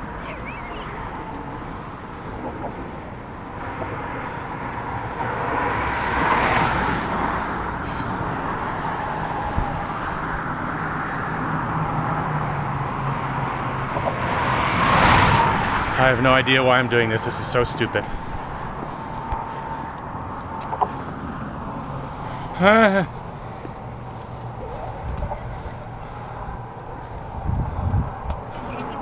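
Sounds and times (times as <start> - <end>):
highway traffic passing: 0.0 - 29.0.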